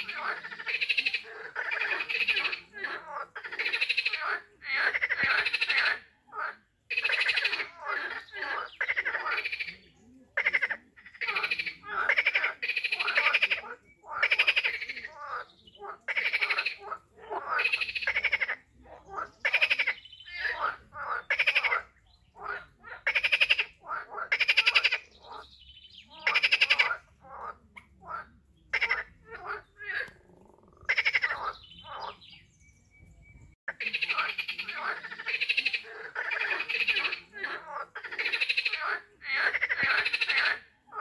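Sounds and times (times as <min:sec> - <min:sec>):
frogs calling: 0:00.0 - 0:32.4, 0:33.7 - 0:41.0.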